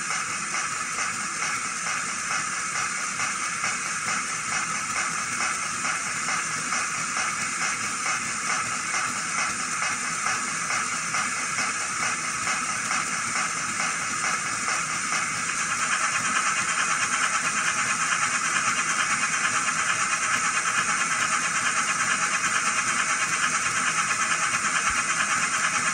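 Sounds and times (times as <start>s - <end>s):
model steam locomotive sound: 0.0s - 25.9s.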